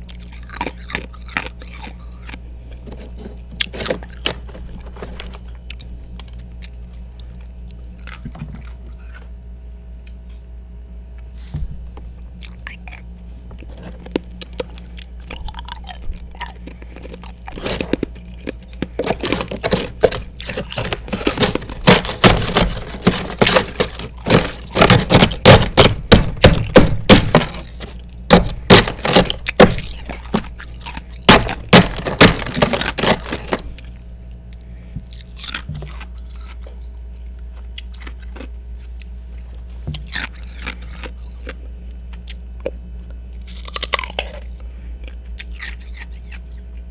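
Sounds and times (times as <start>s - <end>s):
person chewing ice: 0.0s - 9.4s, 12.2s - 46.8s.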